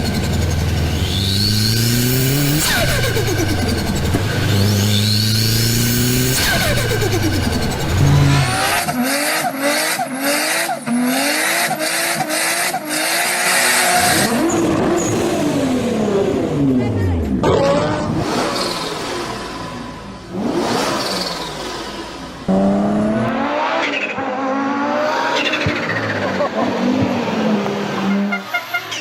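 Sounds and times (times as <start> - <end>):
car engines accelerating hard: 0.0 - 29.0.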